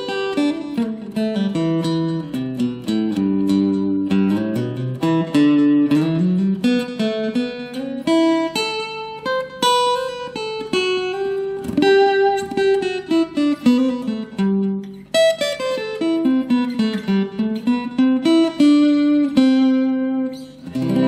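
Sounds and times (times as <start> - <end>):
fingerstyle guitar melody: 0.0 - 21.0.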